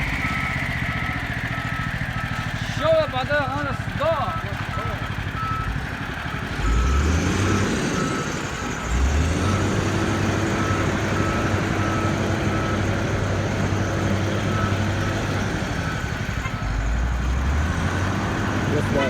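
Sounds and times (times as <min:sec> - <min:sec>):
diesel engine running: 0:00.0 - 0:19.0
reversing alarm beeping: 0:00.0 - 0:19.0.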